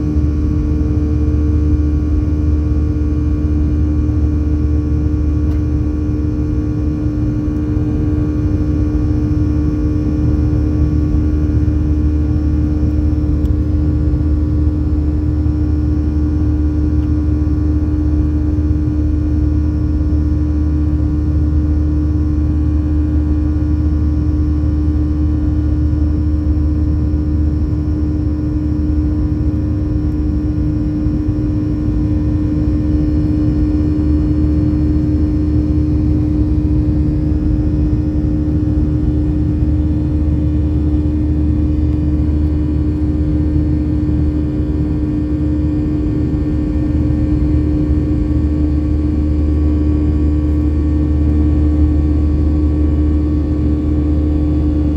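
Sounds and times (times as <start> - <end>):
jet engine drone in cabin: 0.0 - 54.9.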